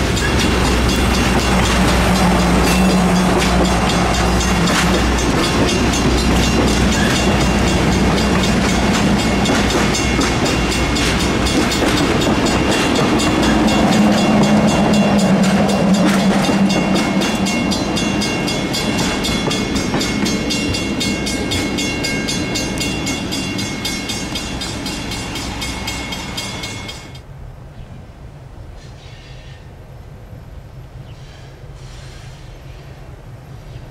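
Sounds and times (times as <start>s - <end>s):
train rolling past: 0.0s - 27.4s.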